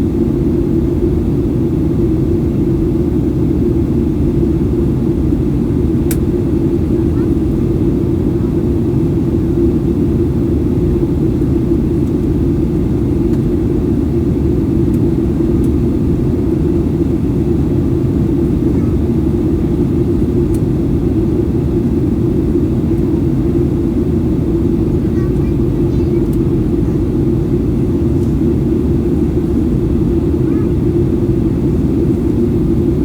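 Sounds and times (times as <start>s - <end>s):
jet engine drone in cabin: 0.0s - 33.0s.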